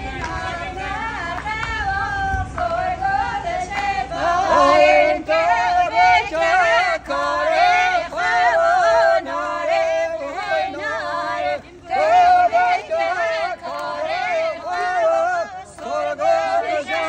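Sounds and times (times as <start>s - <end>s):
woman singing unaccompanied: 0.0s - 17.0s.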